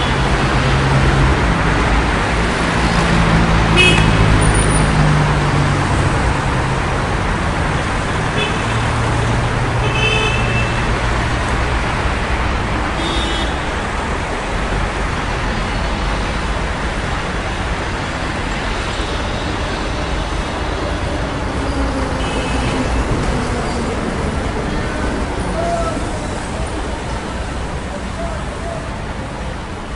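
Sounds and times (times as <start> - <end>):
passing traffic: 0.0 - 29.9.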